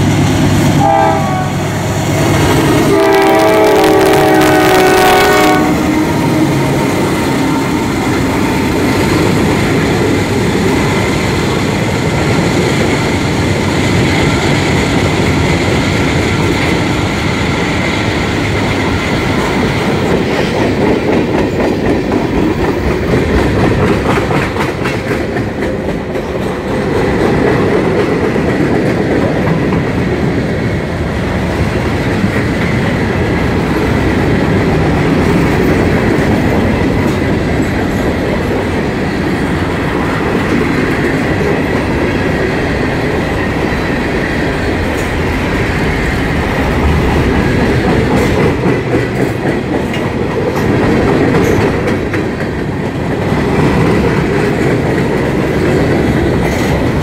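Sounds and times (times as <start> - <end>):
freight train wheels clacking on rails: 0.0 - 57.0.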